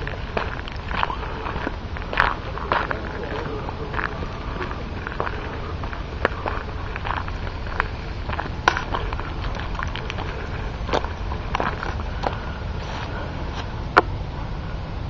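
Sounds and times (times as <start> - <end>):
footsteps crunching on dry ground: 0.0 - 14.1
low rumble: 0.0 - 15.0.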